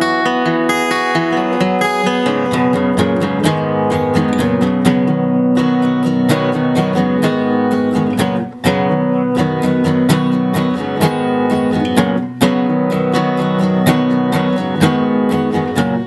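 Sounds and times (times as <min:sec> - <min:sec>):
acoustic guitar strummed: 0:00.0 - 0:16.0.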